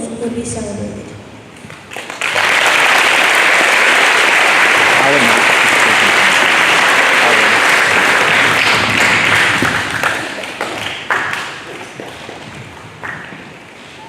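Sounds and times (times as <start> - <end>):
audience applauding: 1.6 - 14.0.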